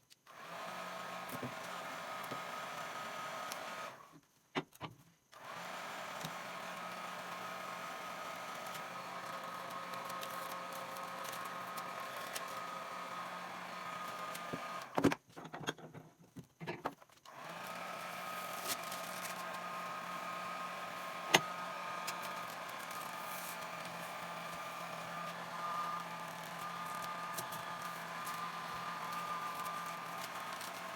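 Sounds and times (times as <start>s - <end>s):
small electric motor running: 0.3s - 4.1s, 5.4s - 15.0s, 17.3s - 30.9s
motor knocking: 0.4s - 4.0s, 5.4s - 15.0s, 17.3s - 30.9s.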